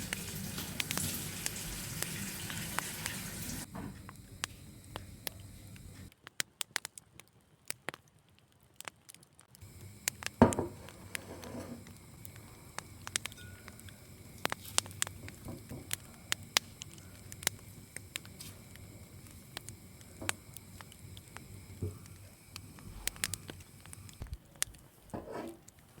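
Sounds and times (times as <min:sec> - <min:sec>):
food crackling in frying pan: 0:00.0 - 0:26.0.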